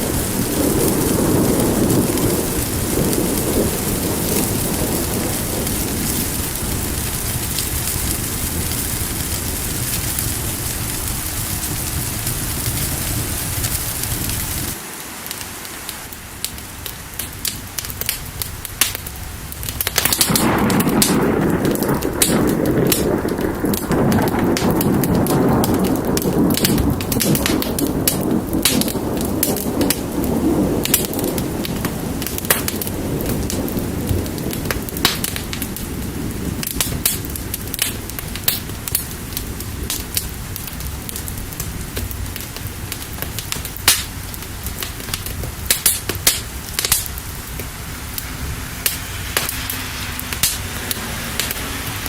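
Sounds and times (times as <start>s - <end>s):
thunder rolling: 0.0s - 14.8s, 16.2s - 52.0s
rain falling: 0.0s - 52.0s
wood fire crackling: 0.0s - 52.0s.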